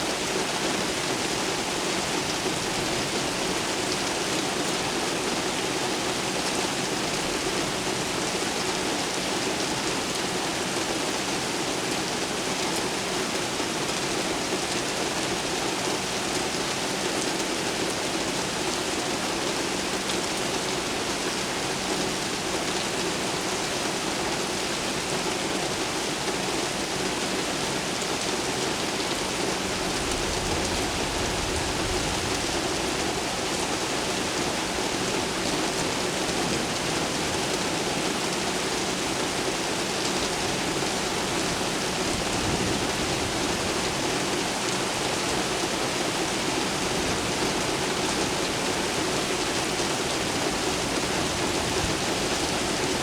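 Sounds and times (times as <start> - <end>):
heavy rain on hard surfaces: 0.0 - 53.0.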